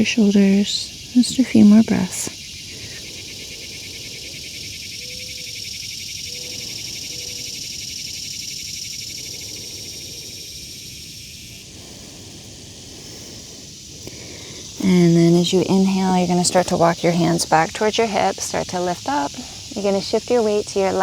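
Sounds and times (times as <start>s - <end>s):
cicadas buzzing: 0.0s - 21.0s.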